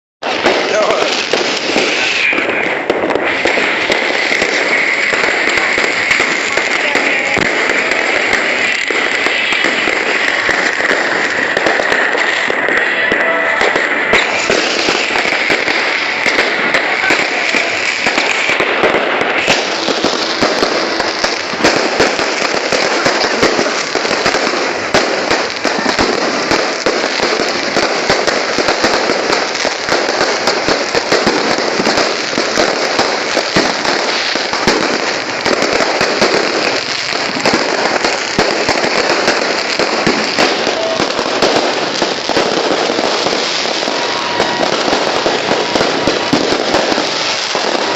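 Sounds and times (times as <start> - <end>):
firecrackers crackling: 0.2 - 47.9.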